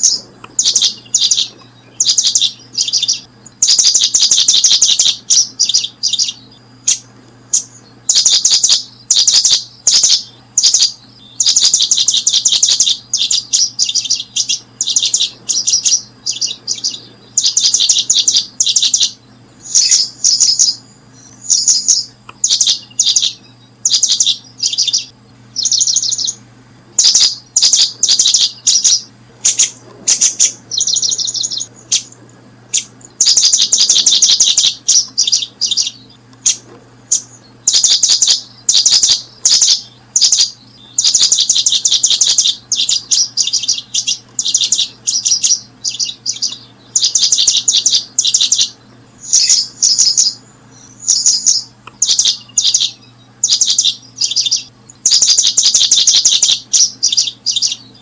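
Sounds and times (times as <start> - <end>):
birds chirping: 0.0 - 58.0
faint low hum: 0.0 - 58.0.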